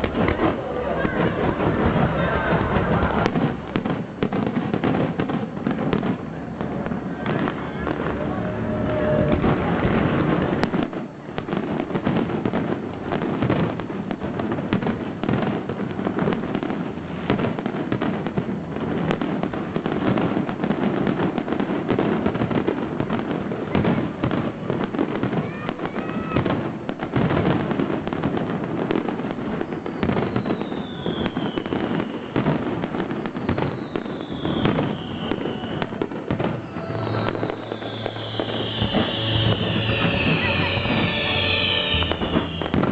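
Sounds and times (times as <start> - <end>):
falling firework whistles: 0.0 - 42.9
fireworks bangs and crackling: 0.0 - 42.9.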